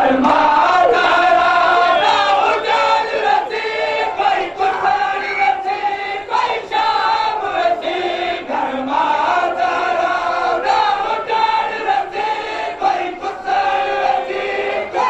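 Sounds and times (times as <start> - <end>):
crowd of men chanting: 0.0 - 15.0.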